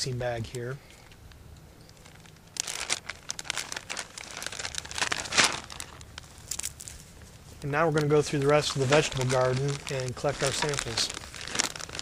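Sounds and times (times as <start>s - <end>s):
plastic bag crinkling: 2.0s - 12.0s.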